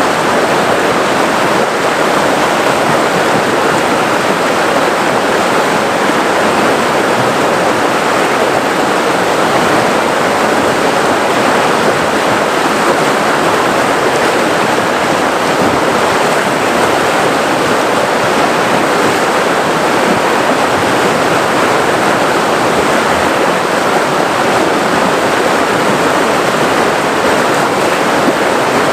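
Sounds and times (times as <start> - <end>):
river water rushing over rocks: 0.0 - 28.9.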